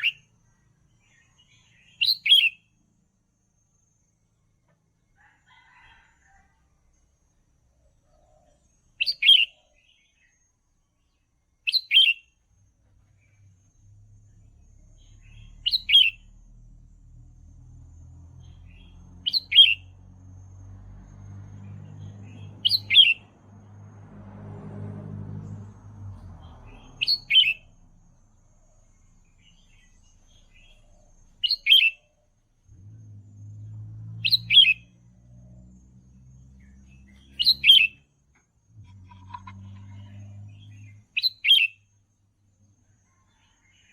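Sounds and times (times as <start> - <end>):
bird singing: 0.0 - 2.8, 7.9 - 24.0, 25.3 - 43.9.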